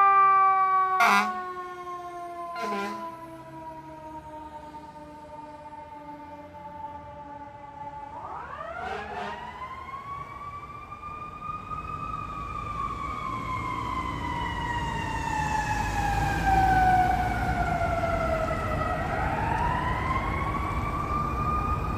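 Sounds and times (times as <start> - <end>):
fire engine siren: 0.0 - 21.9
traffic and engine rumble: 0.4 - 21.9.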